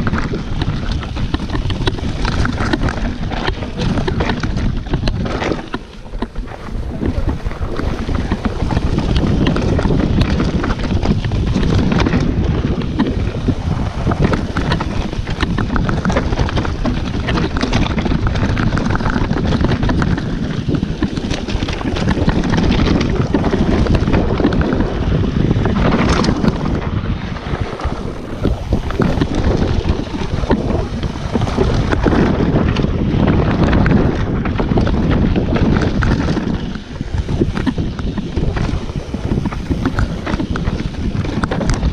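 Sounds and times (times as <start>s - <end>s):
bike rattling and knocking: 0.0s - 41.9s
tyres crunching on loose stones: 0.0s - 41.9s
wind rushing over microphone: 0.0s - 41.9s.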